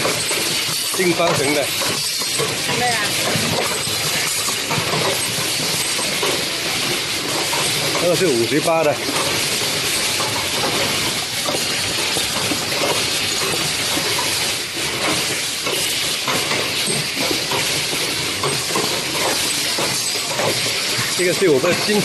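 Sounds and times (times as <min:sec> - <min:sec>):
factory machinery hissing: 0:00.0 - 0:22.0.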